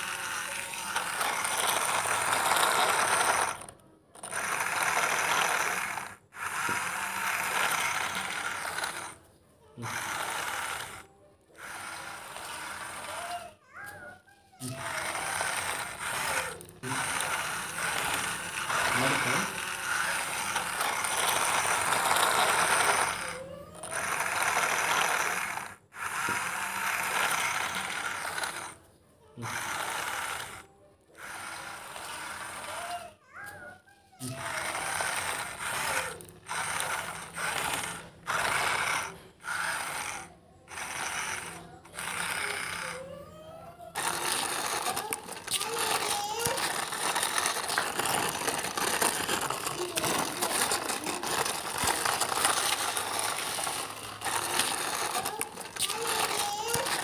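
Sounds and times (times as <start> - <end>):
toy truck geared motor running: 0.0 - 57.0.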